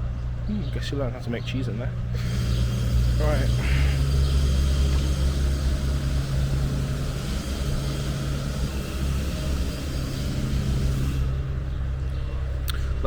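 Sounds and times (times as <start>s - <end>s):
low street rumble: 0.0s - 13.0s
wet street hiss: 2.2s - 13.0s.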